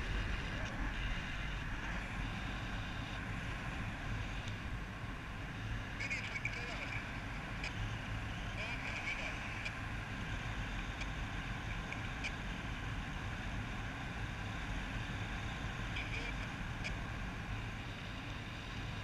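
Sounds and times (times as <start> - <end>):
flight noise rushing and humming: 0.0 - 19.0.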